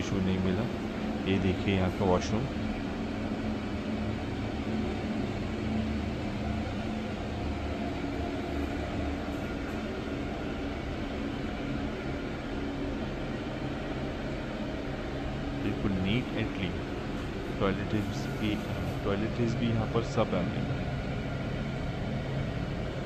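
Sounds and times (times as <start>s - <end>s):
room ventilation hum: 0.0s - 23.0s.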